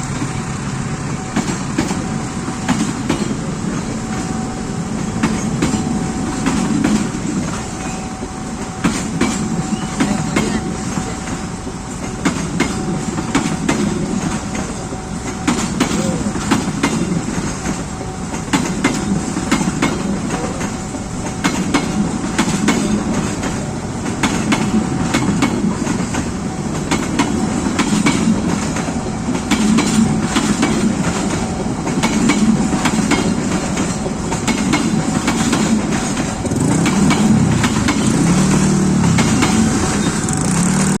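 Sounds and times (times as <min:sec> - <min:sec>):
train rumble: 0:00.0 - 0:41.0
train wheels clicking on rail joints: 0:00.0 - 0:41.0.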